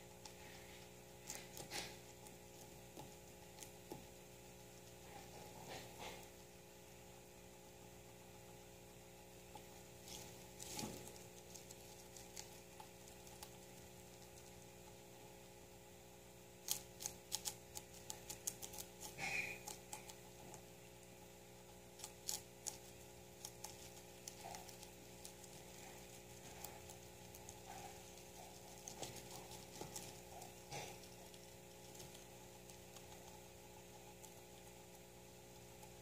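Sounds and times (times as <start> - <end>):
faint steady hum: 0.0 - 36.0
guinea pig chewing greens: 0.0 - 36.0.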